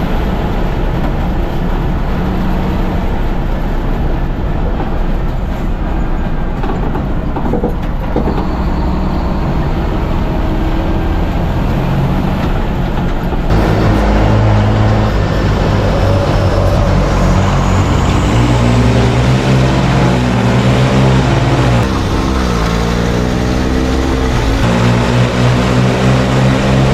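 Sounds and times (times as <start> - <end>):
diesel truck engine racing: 0.0 - 26.9.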